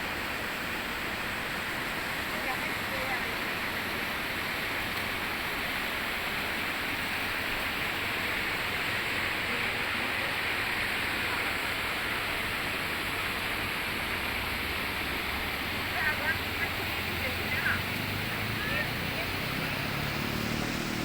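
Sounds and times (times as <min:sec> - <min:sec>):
rushing white water: 0:00.0 - 0:21.0.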